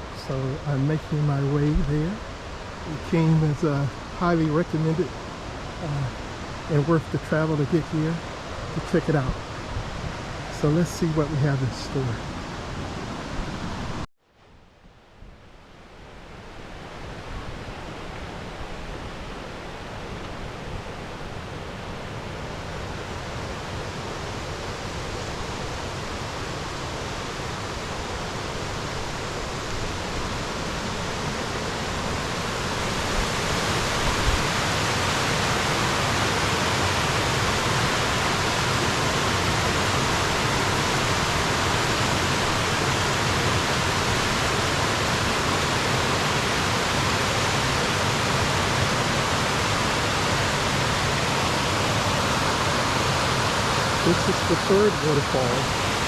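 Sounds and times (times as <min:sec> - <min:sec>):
waterfall rushing: 0:00.0 - 0:14.1, 0:17.6 - 0:56.0.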